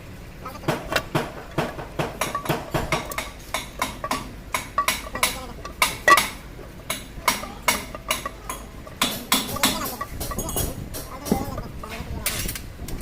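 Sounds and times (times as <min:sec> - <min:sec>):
metal parts and tools clinking: 0:00.8 - 0:13.0.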